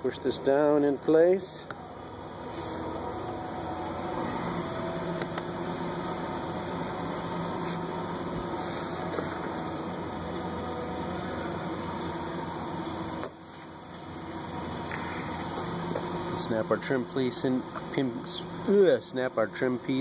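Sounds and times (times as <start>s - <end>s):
mechanical hum and whir: 0.0s - 20.0s.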